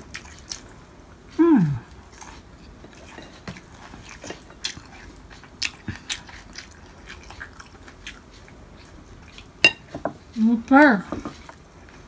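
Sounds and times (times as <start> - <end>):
chewing crispy fried fish: 0.0 - 12.0.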